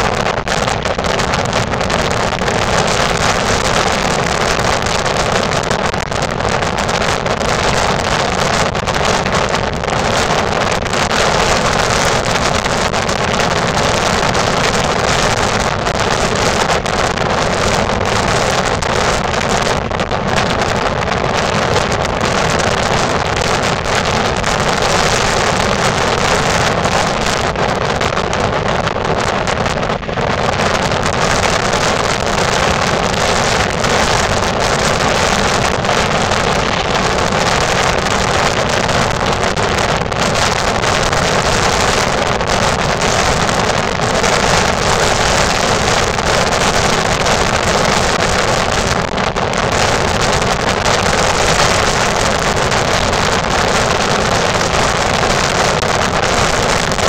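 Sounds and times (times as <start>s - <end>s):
strong wind buffeting microphone: 0.0s - 57.0s.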